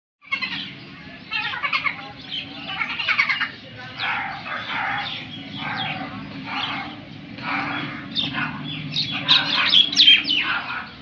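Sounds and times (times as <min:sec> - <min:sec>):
crows cawing: 0:01.3 - 0:11.0.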